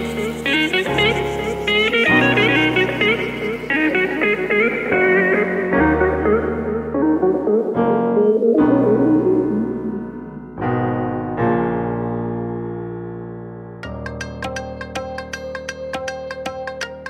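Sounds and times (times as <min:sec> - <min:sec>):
keyboard piano melody: 0:00.0 - 0:17.0.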